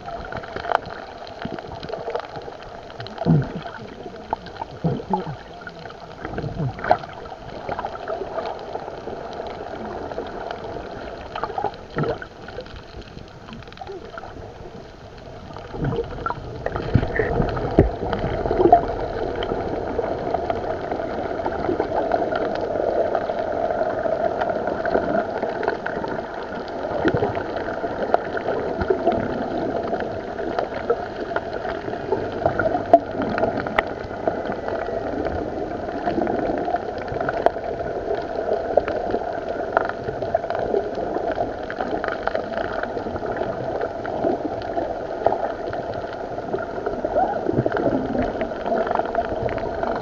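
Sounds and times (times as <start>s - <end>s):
bubbling gurgles: 0.0s - 50.0s
underwater water rush: 0.0s - 50.0s.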